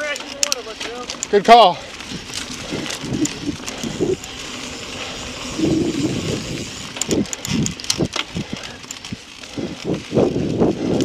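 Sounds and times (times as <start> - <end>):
bike clicks and rattles: 0.0 - 11.0
bike tyre noise: 0.0 - 11.0
wind rush: 1.8 - 11.0.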